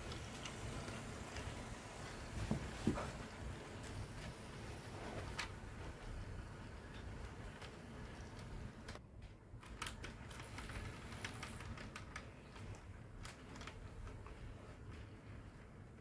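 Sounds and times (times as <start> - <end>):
model train wheels clicking on rails: 0.0 - 9.0, 9.6 - 15.0.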